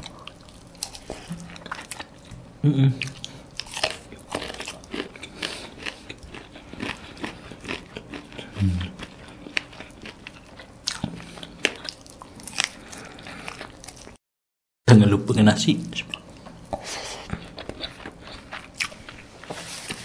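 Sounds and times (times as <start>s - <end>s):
chewing and biting chicken: 0.0s - 2.4s, 3.0s - 14.2s, 16.7s - 20.0s.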